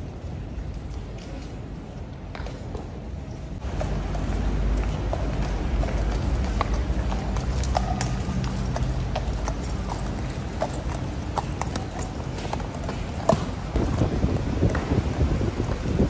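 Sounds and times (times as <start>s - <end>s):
horse hooves clip-clopping on pavement: 0.2s - 16.0s.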